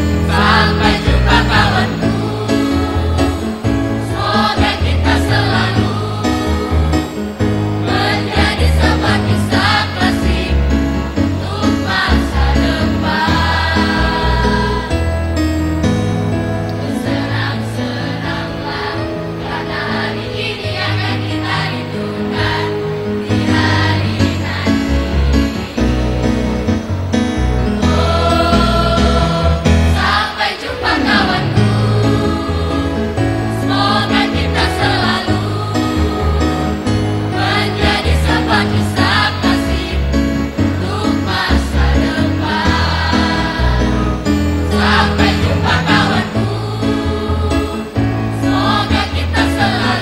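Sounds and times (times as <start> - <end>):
choir singing: 0.0 - 15.5, 16.7 - 50.0
instrumental accompaniment with bass: 0.0 - 50.0.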